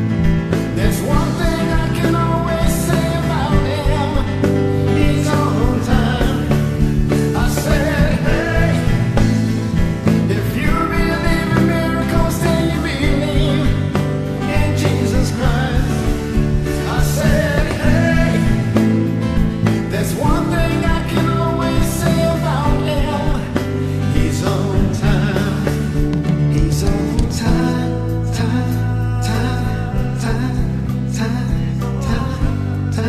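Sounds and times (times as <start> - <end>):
instrumental gospel band music: 0.0 - 33.0.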